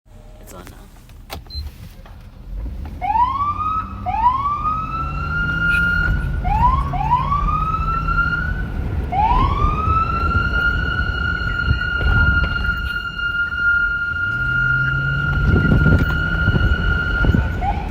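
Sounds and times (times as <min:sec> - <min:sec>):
low rumble: 0:02.3 - 0:17.9
police siren whooping: 0:03.0 - 0:17.9.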